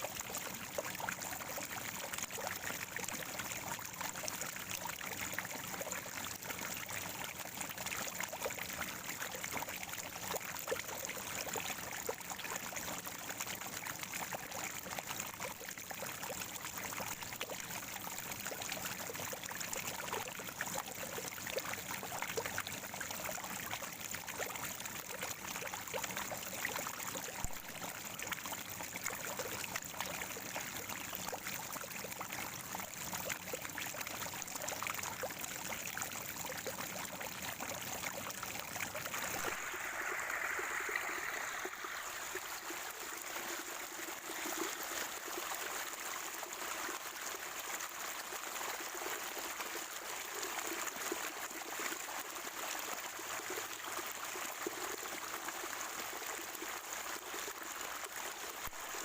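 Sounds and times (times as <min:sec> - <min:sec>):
small splashes and drips: 0:00.0 - 0:52.3
spring water gurgling and trickling: 0:00.0 - 0:59.0.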